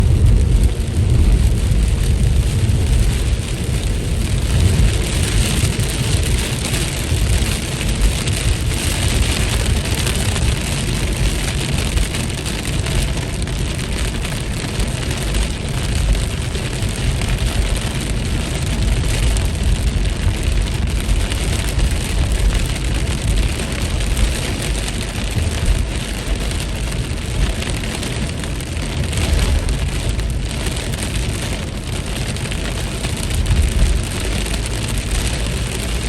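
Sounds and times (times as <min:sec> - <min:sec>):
heavy low rumble: 0:00.0 - 0:36.0
steady rain falling: 0:00.0 - 0:36.0.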